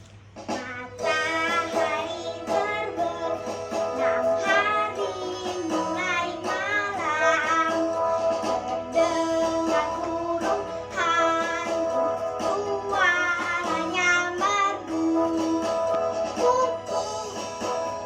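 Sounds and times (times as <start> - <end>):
person singing a children's song: 0.4 - 18.0
guitar accompaniment: 0.6 - 18.0.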